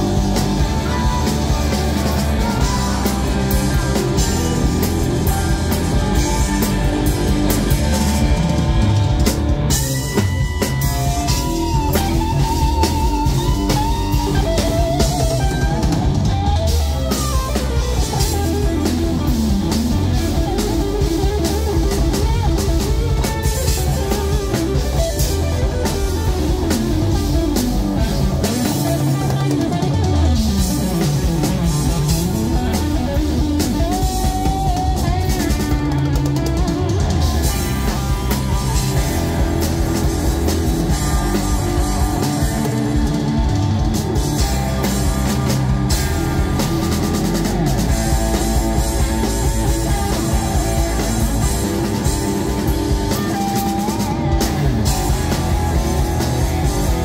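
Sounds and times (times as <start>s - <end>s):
bass guitar: 0.0s - 57.0s
electric guitar lead: 0.0s - 57.0s
pounding drum kit: 0.0s - 57.0s.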